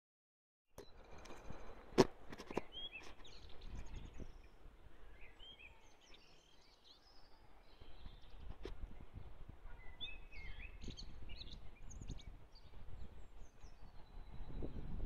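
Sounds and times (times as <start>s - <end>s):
birds chirping: 0.8s - 15.0s.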